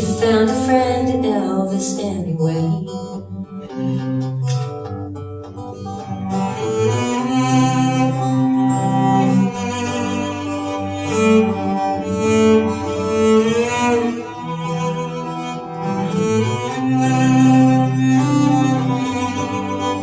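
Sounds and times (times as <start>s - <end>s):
bowed string melody: 0.0s - 20.0s.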